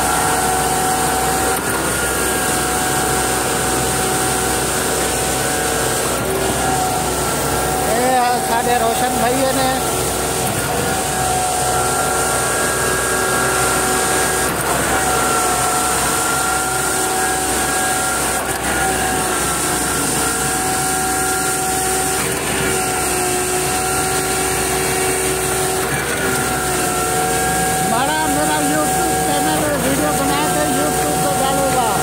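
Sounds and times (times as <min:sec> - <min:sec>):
heavy construction machine engine: 0:00.0 - 0:32.0.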